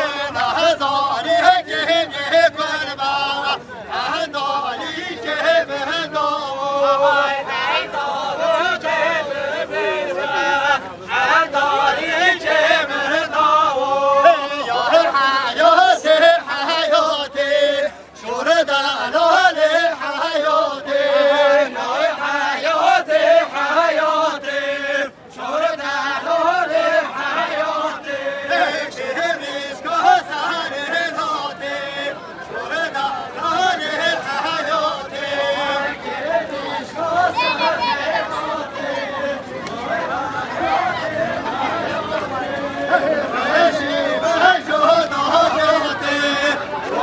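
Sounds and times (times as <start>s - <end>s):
men singing unaccompanied: 0.0s - 47.0s.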